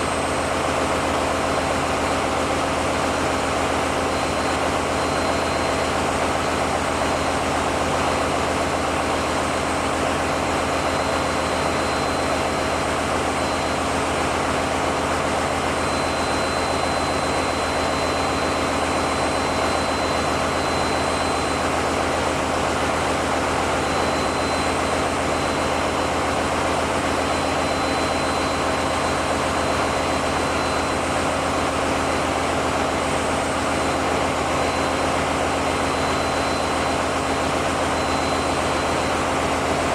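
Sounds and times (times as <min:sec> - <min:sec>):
diesel generator engines running: 0:00.0 - 0:39.9.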